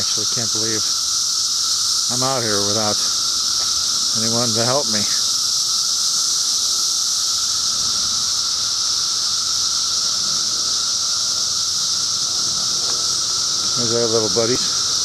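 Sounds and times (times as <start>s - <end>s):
cicadas chorus: 0.0s - 15.0s.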